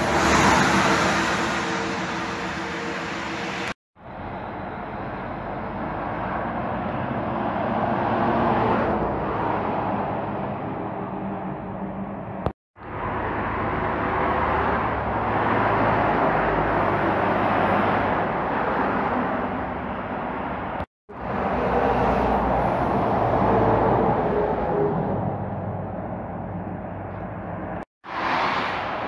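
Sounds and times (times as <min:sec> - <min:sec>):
highway traffic roar: 0:00.0 - 0:29.0.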